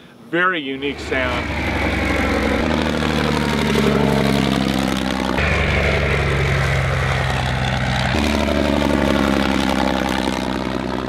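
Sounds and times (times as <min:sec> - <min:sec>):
biplane engine running: 0:00.3 - 0:11.0.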